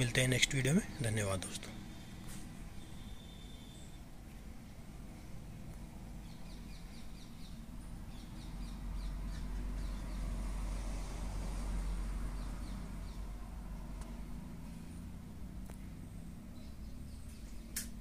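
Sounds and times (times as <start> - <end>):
small birds chirping: 0.0 - 10.8, 11.5 - 18.0
low hum and rumble: 1.7 - 18.0.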